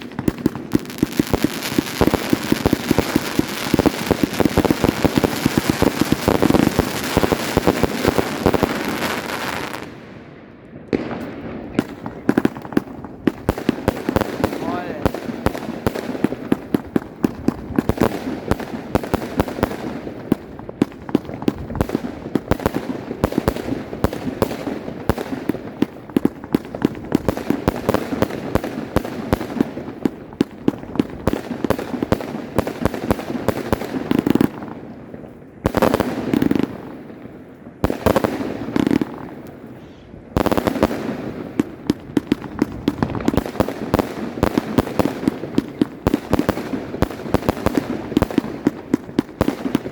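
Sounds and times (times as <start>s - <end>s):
firework battery cracking shots: 0.0s - 10.0s, 10.8s - 34.8s, 37.8s - 49.9s.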